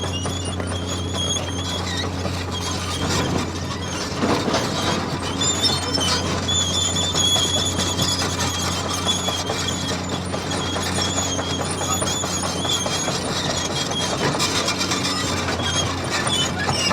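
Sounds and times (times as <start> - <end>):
toy bulldozer motor humming: 0.0 - 16.9.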